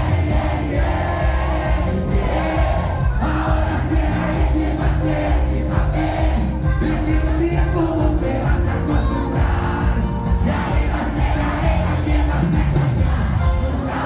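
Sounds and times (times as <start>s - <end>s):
live band music with steady beat: 0.0s - 14.0s
people singing: 0.0s - 14.0s.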